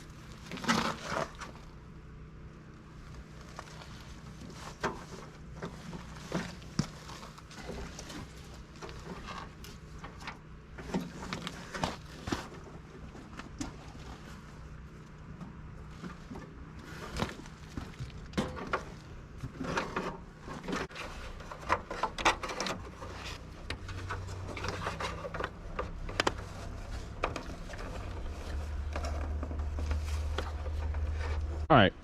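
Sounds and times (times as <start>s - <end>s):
low steady rumble: 0.0s - 32.0s.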